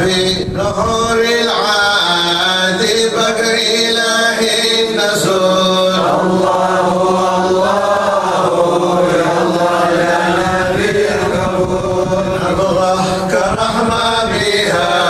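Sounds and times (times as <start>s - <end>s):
men chanting slow melody: 0.0s - 15.0s.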